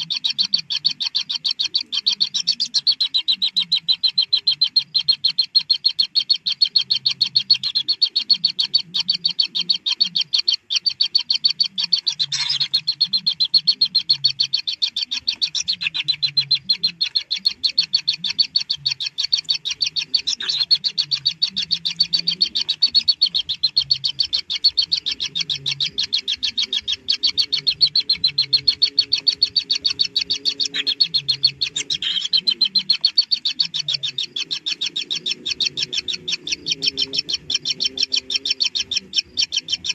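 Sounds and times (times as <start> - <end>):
nestlings clicking chirps: 0.0 - 39.9.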